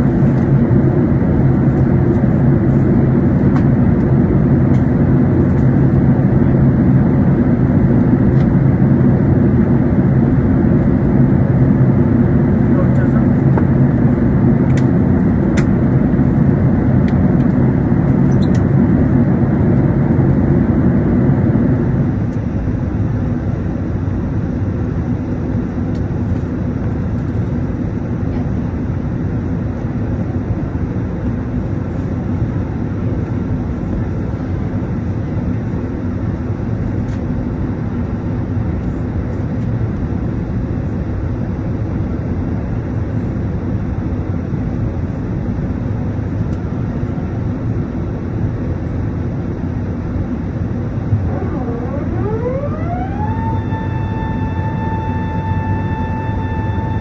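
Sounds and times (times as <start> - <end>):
airliner cabin engine rush: 0.0 - 57.0.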